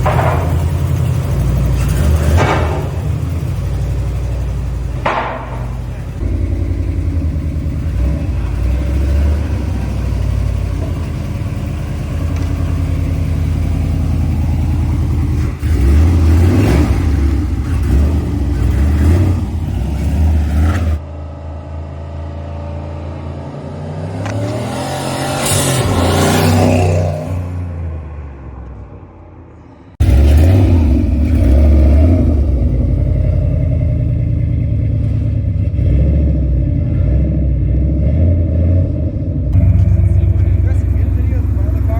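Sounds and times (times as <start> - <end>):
car engine revving: 0.0 - 28.4, 30.0 - 41.9.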